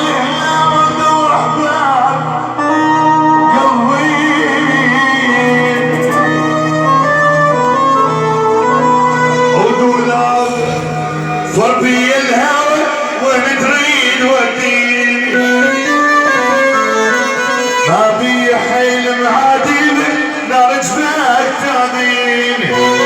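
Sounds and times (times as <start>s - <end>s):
sustained band accompaniment: 0.0s - 23.0s
violin-like melody: 0.0s - 23.0s.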